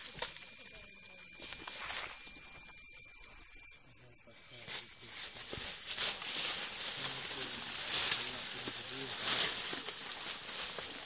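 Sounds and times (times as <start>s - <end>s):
faint low voices murmuring: 0.0s - 10.1s
rustles and crackles: 0.0s - 11.0s
steady high hiss: 0.0s - 11.0s.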